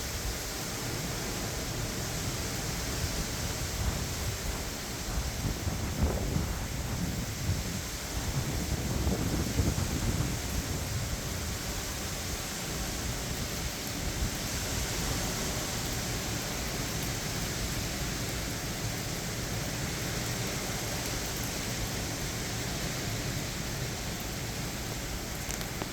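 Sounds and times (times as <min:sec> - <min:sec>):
heavy rain: 0:00.0 - 0:25.9
hurricane wind: 0:00.0 - 0:25.9.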